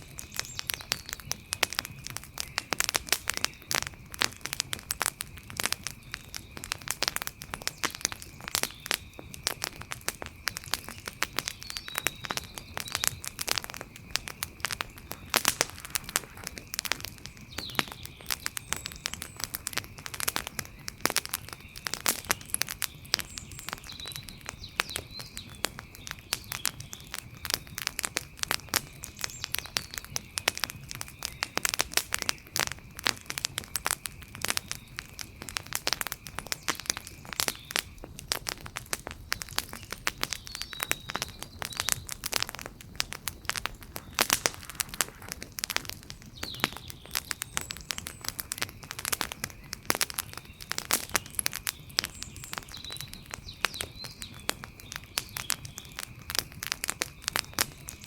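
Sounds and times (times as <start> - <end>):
wood fire crackling: 0.0 - 58.0
faint chirps: 5.7 - 58.0.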